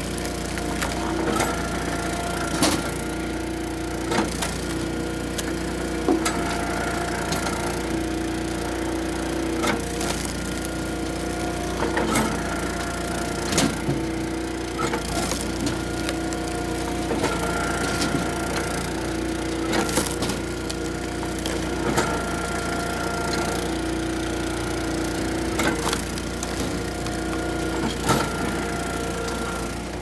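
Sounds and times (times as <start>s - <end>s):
wood cracking: 0.0s - 6.5s, 9.1s - 30.0s
hydraulic ram whine: 0.0s - 30.0s
log splitter engine running: 0.0s - 30.0s.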